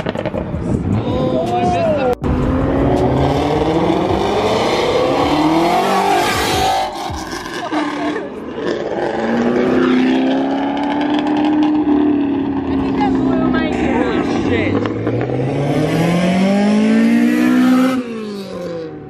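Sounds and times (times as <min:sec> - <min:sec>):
car engine accelerating hard: 0:02.2 - 0:19.0.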